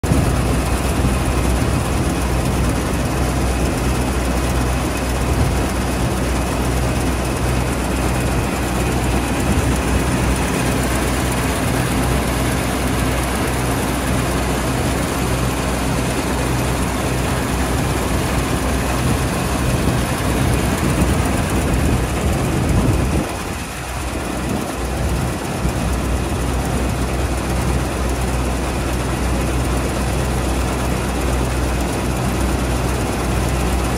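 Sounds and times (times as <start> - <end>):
combine harvester diesel engine: 0.0 - 33.9.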